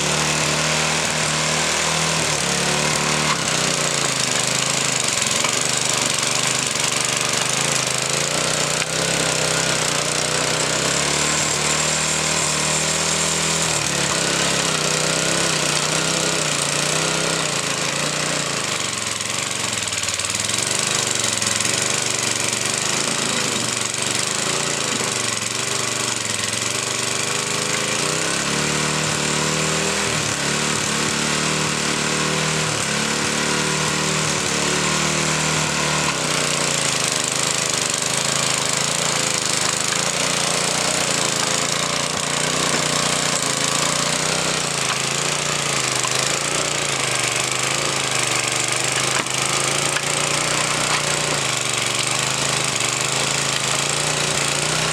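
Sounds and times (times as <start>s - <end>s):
garden tiller engine running: 0.0s - 54.9s.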